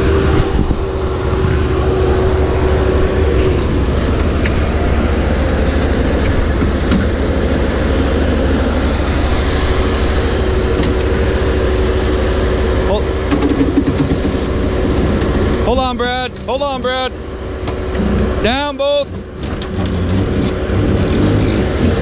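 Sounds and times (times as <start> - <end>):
loader engines droning: 0.0 - 22.0
steady hum: 0.0 - 22.0.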